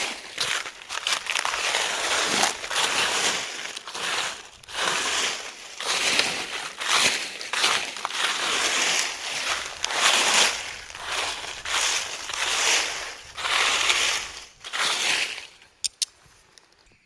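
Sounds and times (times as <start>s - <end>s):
crinkling rustle of dry material: 0.0s - 17.0s.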